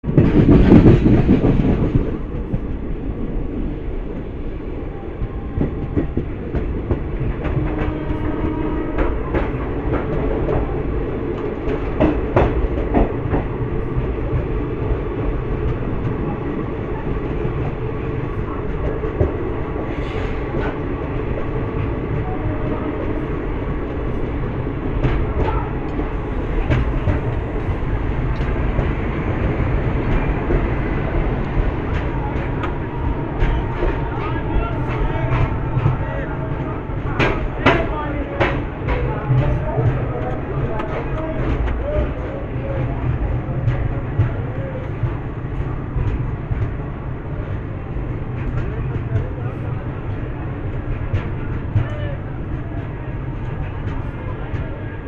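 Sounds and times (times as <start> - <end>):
train wheels rumbling on track: 0.0 - 55.0
rail joint clicks: 0.1 - 55.0.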